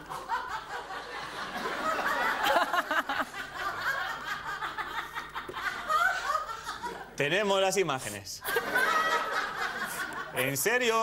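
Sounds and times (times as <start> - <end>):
people laughing: 0.0 - 7.2, 8.4 - 11.0.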